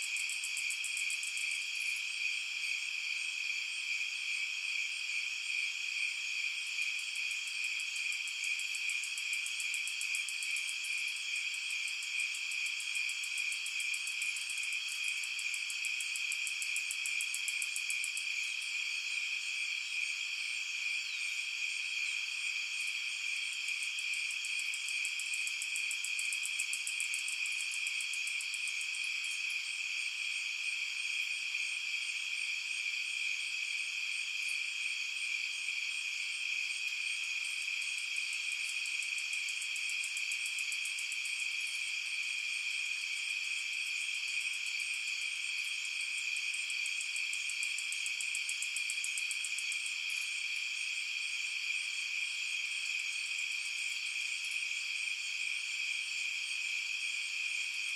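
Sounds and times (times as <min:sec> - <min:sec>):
crickets and insects trilling: 0:00.0 - 0:50.5.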